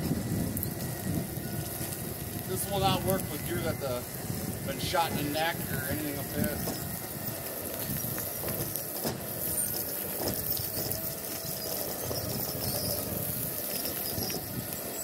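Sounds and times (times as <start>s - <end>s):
electric winch running under load: 0.0s - 15.0s.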